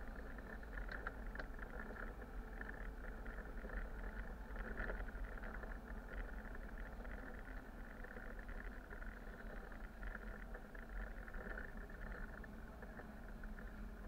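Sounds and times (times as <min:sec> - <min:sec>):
faint rattles and ticks: 0:00.0 - 0:14.0
road noise: 0:00.0 - 0:14.0.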